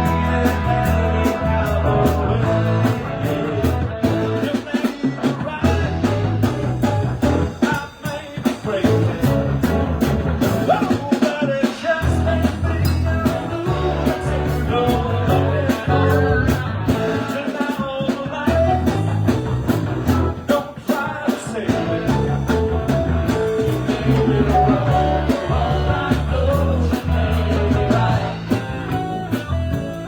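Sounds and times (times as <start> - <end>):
deep bass notes: 0.0 - 4.5, 5.6 - 7.6, 8.9 - 11.0, 12.0 - 17.3, 18.5 - 20.5, 21.7 - 30.0
guitar: 0.0 - 30.0
live band playing: 0.0 - 30.0
steady drum beat: 0.0 - 30.0.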